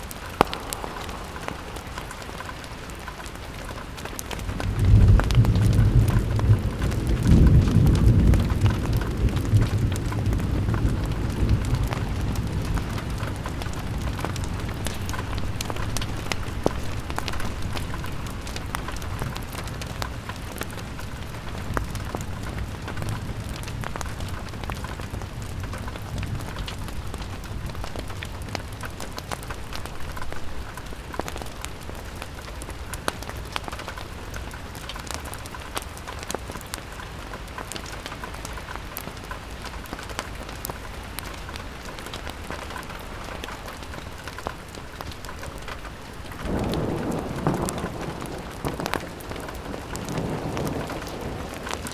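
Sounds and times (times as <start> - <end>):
wind rumbling: 0.0 - 37.6, 38.8 - 51.9
fire crackles: 0.0 - 51.9
rain on a window: 0.0 - 51.9.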